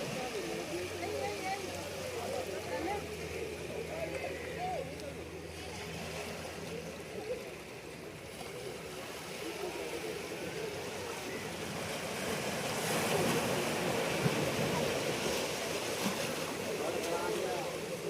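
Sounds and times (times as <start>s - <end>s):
water rushing and lapping: 0.0s - 18.0s.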